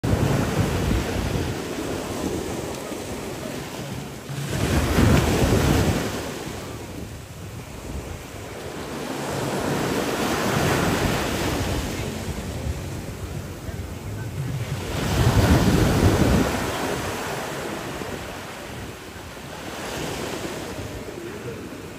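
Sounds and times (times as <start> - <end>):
ocean waves breaking over rocks: 0.0 - 21.9.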